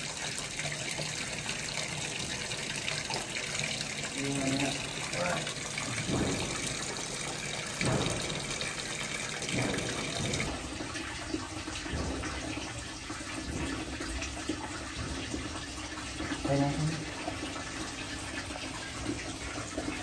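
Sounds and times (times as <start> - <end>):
tap water splashing into basin: 0.0 - 20.0.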